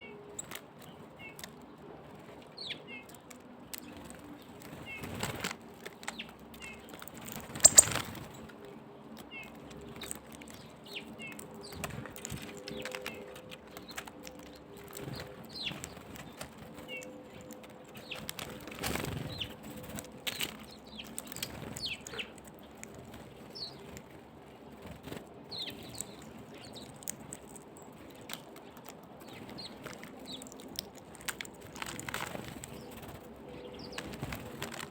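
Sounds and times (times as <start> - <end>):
birds fluttering wings: 3.2 - 34.9.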